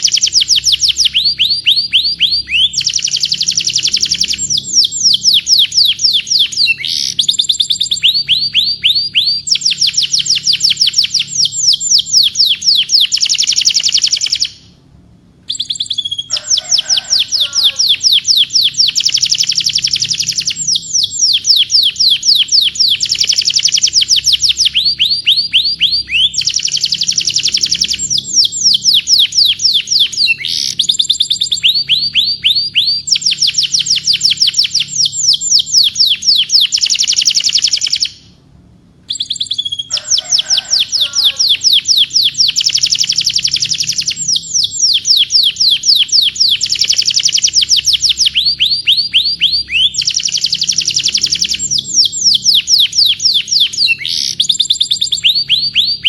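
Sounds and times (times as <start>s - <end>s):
canary singing fast trills: 0.0s - 14.8s, 15.5s - 38.4s, 39.1s - 56.0s.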